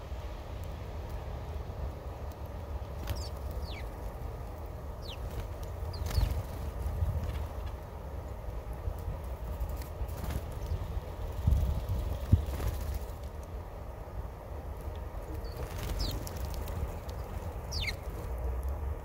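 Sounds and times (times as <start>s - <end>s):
small birds chirping: 1.7s - 13.5s, 14.8s - 18.4s.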